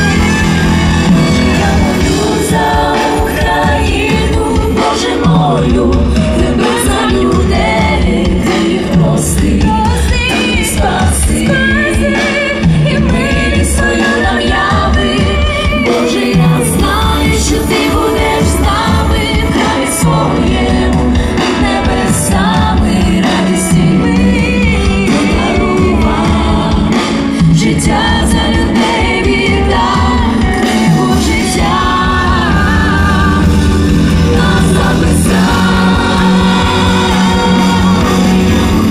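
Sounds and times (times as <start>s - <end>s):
group singing: 0.0s - 38.9s
worship band playing: 0.0s - 38.9s.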